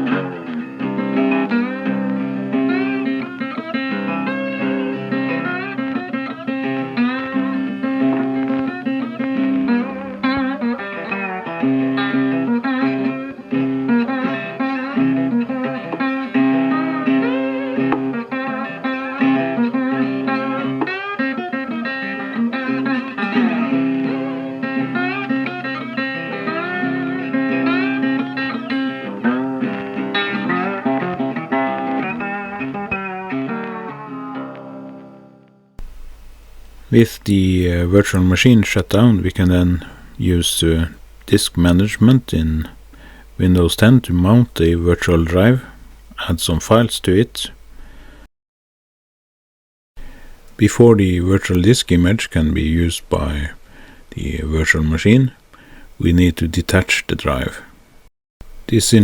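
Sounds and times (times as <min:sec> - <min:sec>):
blues guitar instrumental: 0:00.0 - 0:48.0.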